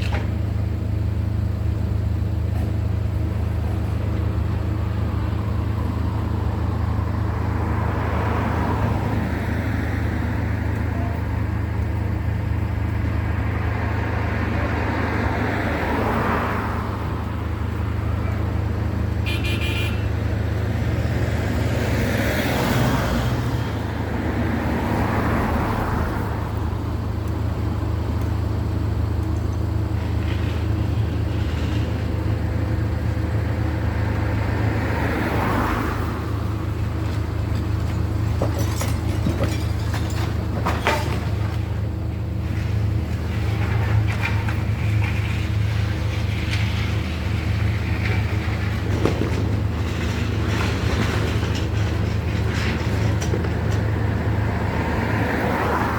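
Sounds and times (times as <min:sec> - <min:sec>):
low engine hum: 0:00.0 - 0:55.9
cars passing: 0:00.6 - 0:55.9.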